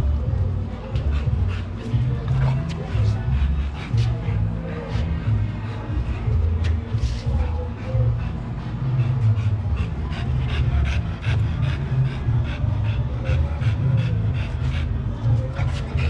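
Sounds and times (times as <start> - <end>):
dog panting: 0.0 - 16.0
steady low rumble: 0.0 - 16.0.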